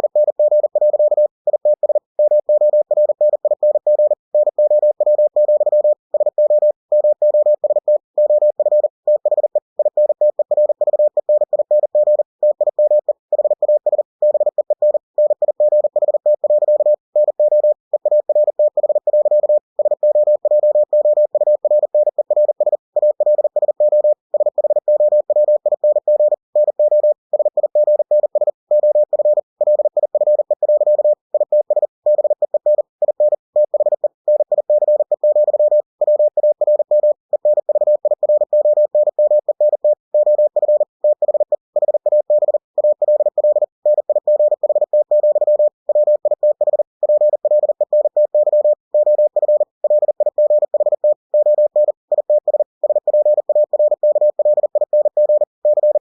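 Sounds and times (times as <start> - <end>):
morse code tone: 0.0 - 56.0.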